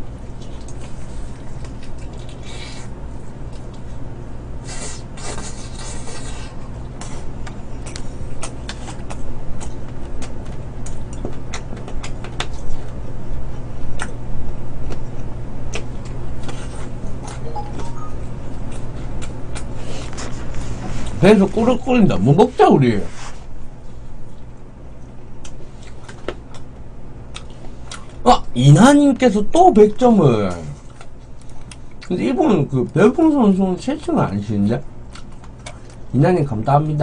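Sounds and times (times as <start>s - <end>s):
chewing and crunching fried chicken: 0.0s - 17.6s, 18.3s - 23.0s, 23.6s - 37.0s
steady low hum: 0.0s - 37.0s.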